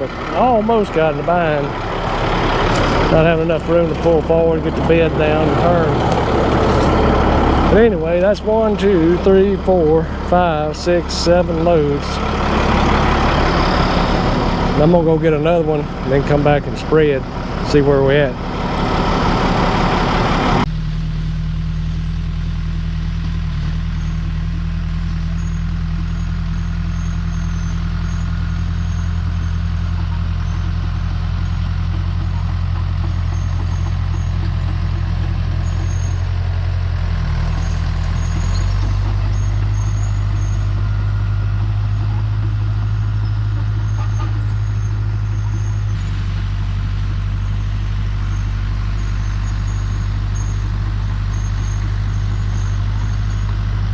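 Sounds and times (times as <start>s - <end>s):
dump truck engine drone: 0.0s - 53.9s.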